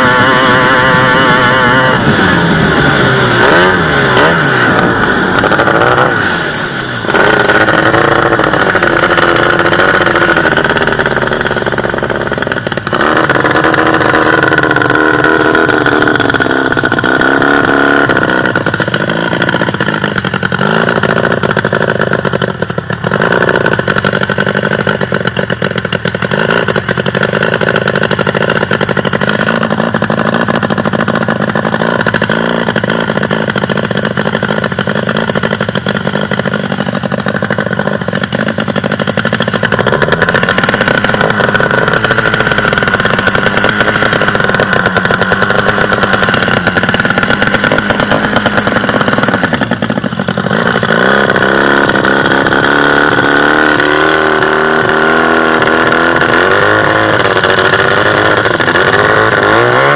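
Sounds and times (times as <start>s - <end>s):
boat engine running hard: 0.0s - 59.9s.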